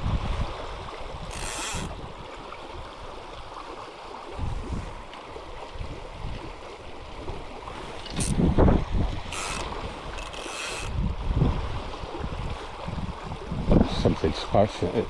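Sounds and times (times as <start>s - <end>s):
wind buffeting microphone: 0.0s - 3.6s, 4.2s - 15.0s
river water rushing over stones: 0.0s - 13.0s.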